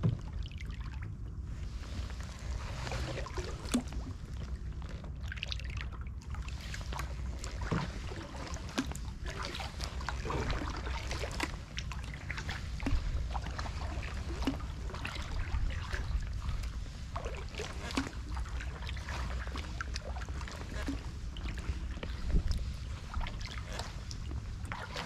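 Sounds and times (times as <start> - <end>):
canoe paddle strokes in water: 0.0 - 25.0
water splashes and drips: 0.0 - 25.0.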